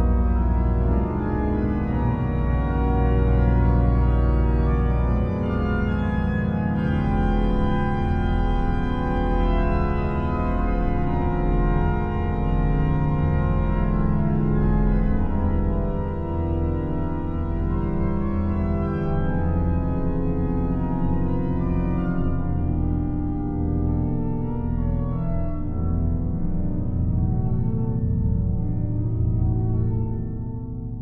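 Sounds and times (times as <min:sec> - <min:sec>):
organ playing held chords: 0:00.0 - 0:30.2.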